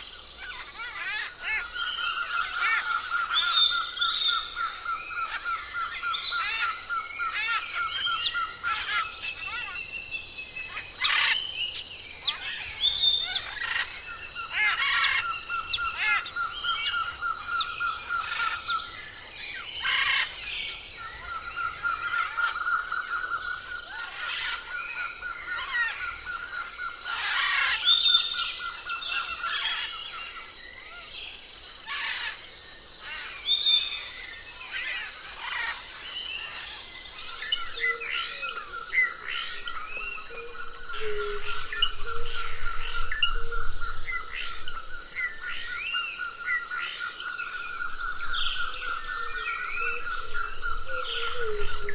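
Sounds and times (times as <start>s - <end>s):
birds chirping and squawking: 0.0s - 51.9s.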